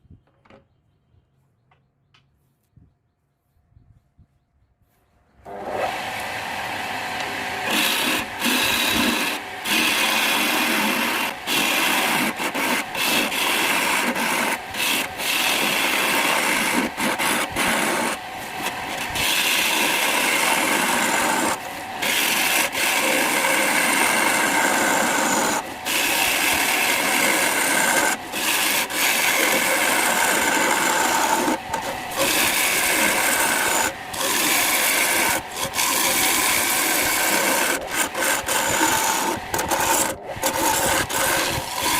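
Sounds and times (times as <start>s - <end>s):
tool scraping wood on lathe: 5.5s - 41.9s.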